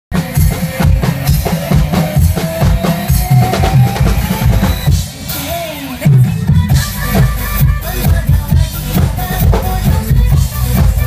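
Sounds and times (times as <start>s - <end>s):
acoustic drum kit beat: 0.1s - 11.0s
pop backing music: 0.1s - 11.0s.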